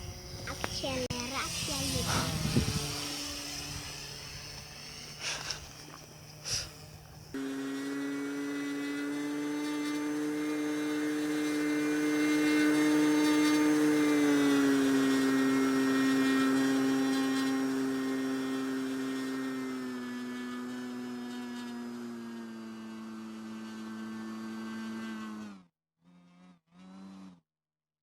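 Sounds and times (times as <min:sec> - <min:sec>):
electric motor whining: 0:00.0 - 0:27.3.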